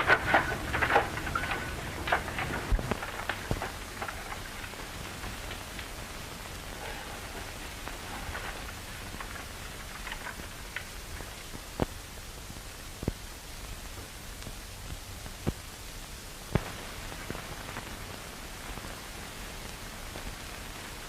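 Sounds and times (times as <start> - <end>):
film soundtrack hiss and crackle: 0.0 - 21.0.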